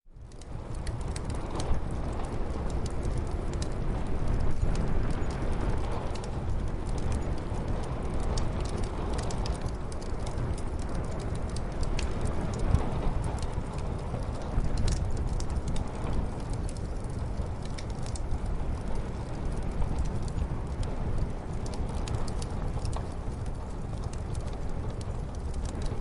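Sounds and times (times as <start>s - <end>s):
muffled snowstorm wind: 0.0s - 26.0s
wood fire crackling and popping: 0.1s - 26.0s.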